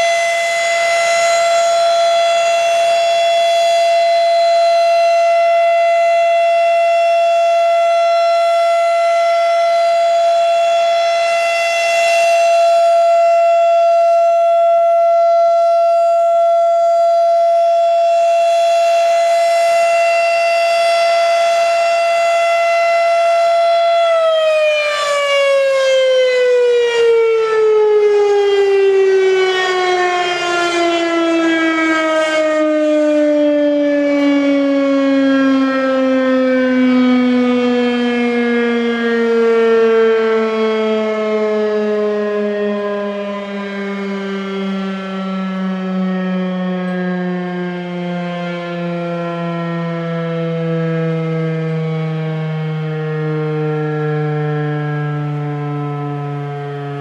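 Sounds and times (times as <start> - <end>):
siren steady tone winding down: 0.0 - 57.0.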